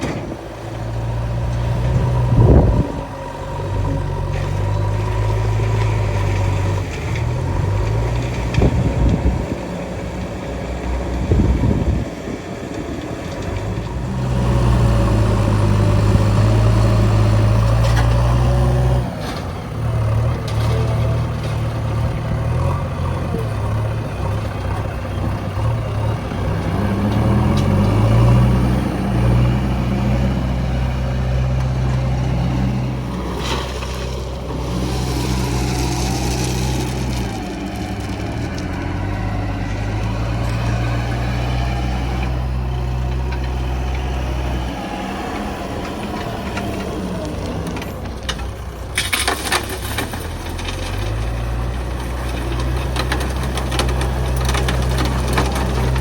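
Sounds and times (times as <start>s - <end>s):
heavy diesel engines revving: 0.0s - 56.0s.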